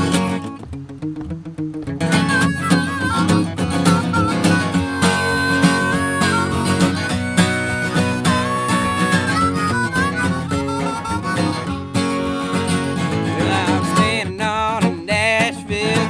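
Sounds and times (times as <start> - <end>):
acoustic guitar strumming: 0.0 - 16.0
harmonica melody: 0.0 - 16.0.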